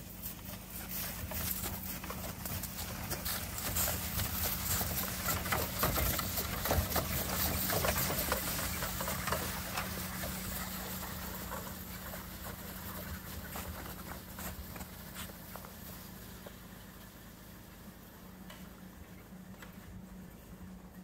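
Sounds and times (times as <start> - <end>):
horse hooves clip-clopping on road: 0.0 - 20.4.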